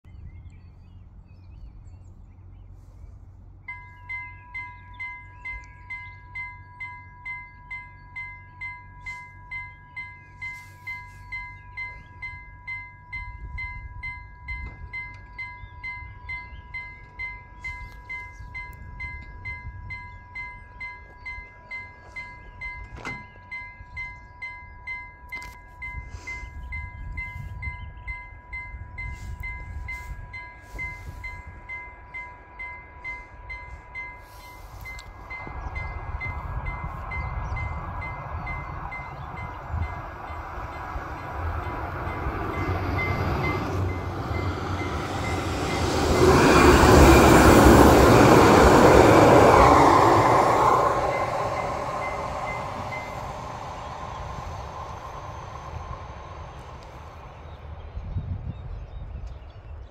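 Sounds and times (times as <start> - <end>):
level crossing warning bell ringing: 3.7 - 56.8.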